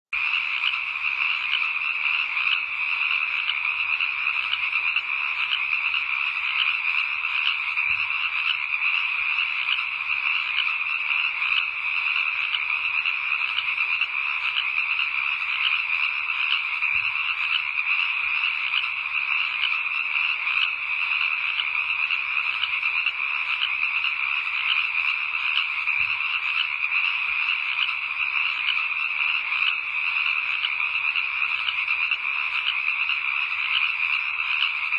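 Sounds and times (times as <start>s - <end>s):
frogs calling: 0.2s - 34.9s.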